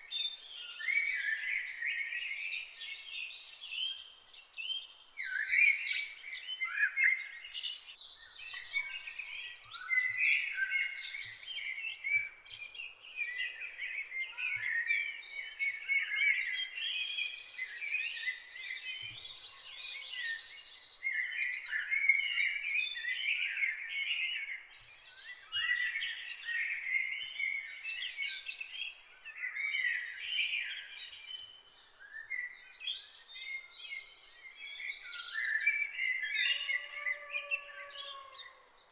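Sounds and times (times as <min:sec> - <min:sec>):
dawn chorus of songbirds: 0:00.0 - 0:38.9.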